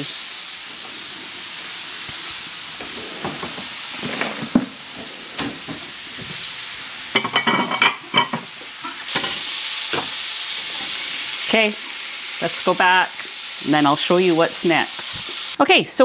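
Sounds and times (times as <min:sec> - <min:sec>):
burger patties sizzling in a pan: 0:00.0 - 0:15.6.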